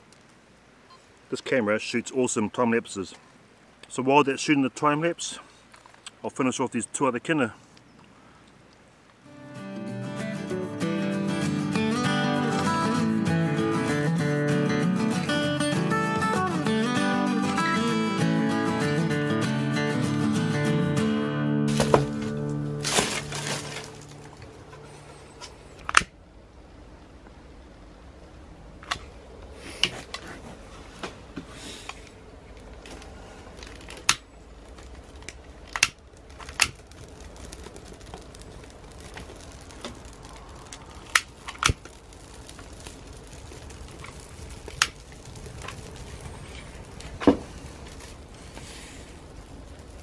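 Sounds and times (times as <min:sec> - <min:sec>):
fire crackling and popping: 0:00.0 - 0:01.4, 0:05.6 - 0:06.2, 0:07.8 - 0:50.0.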